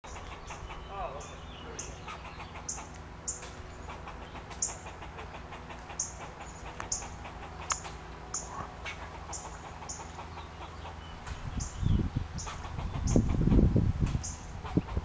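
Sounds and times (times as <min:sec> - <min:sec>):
squirrel alarm calls: 0:00.0 - 0:13.6, 0:14.2 - 0:15.0.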